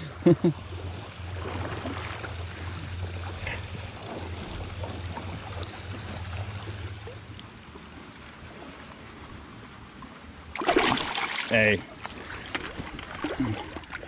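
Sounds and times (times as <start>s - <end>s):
constant low rumble: 0.0s - 14.0s
creek water running: 0.0s - 14.0s.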